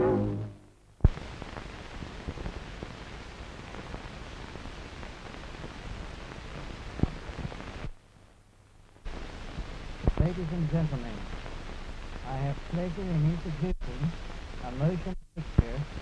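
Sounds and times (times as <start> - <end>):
film soundtrack hiss: 0.0 - 16.0.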